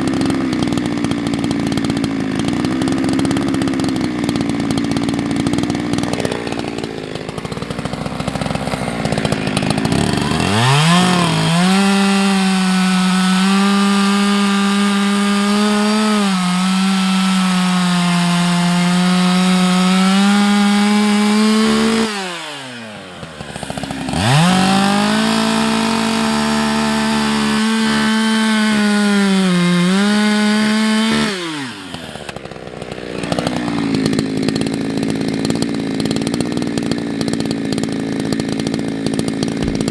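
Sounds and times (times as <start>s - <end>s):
chainsaw cutting wood: 0.0s - 39.9s
chainsaw idling: 0.0s - 39.9s.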